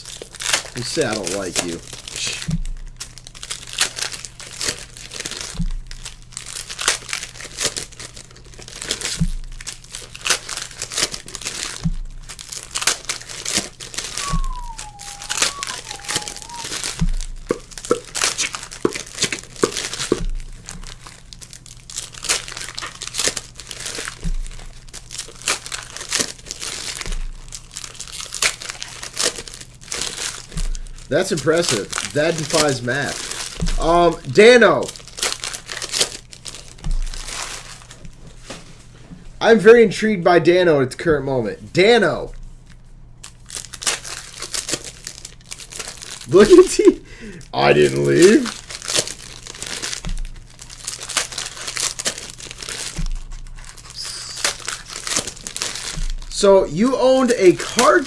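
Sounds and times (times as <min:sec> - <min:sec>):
foil packs crinkling: 0:00.0 - 0:38.7, 0:43.2 - 0:58.0.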